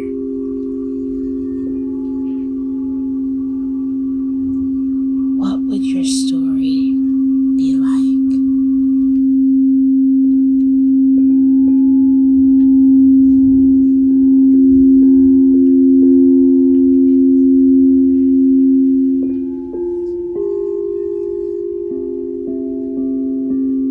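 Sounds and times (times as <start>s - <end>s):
crystal singing bowls ringing: 0.0s - 5.4s, 8.2s - 23.9s.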